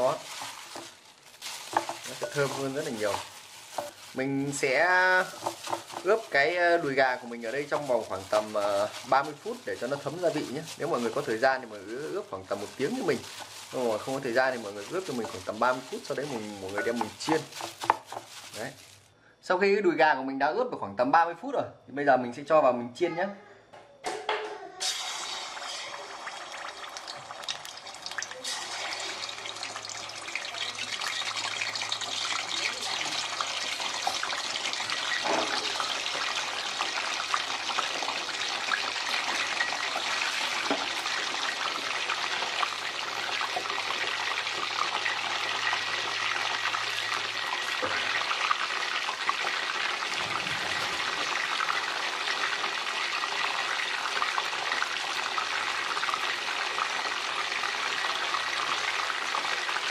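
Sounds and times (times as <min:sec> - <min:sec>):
chicken deep-frying in oil: 0:00.0 - 0:19.0, 0:24.8 - 0:59.9.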